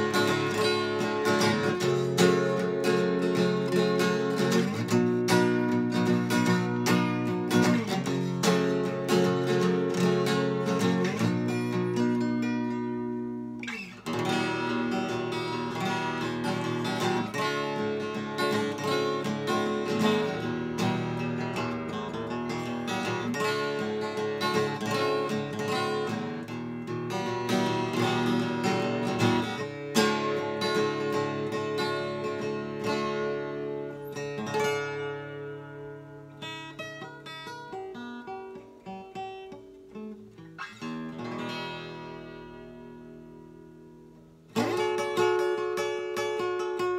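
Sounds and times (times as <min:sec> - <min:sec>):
acoustic guitar strummed chords: 0:00.0 - 0:46.9.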